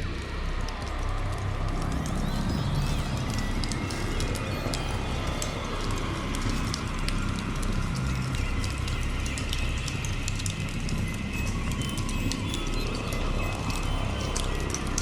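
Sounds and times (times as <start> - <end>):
low synthesizer drone: 0.0 - 15.0
scattered electronic clicks: 0.0 - 15.0.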